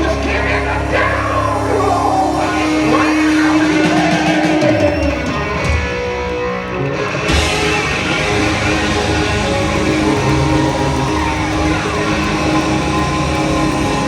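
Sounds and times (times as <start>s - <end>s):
hard rock music with electric guitar: 0.0s - 14.0s.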